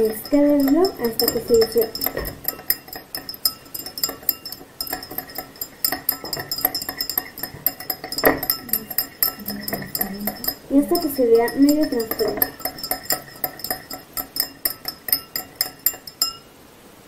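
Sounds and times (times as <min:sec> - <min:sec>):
teaspoon clinking against glass: 0:00.0 - 0:16.5.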